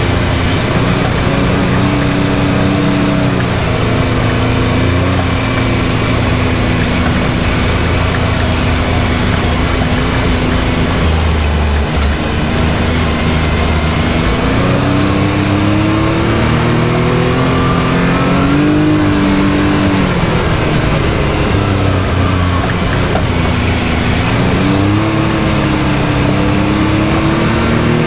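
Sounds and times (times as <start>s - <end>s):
engine running under throttle: 0.0s - 28.0s
ride noise over rough trail: 0.0s - 28.0s.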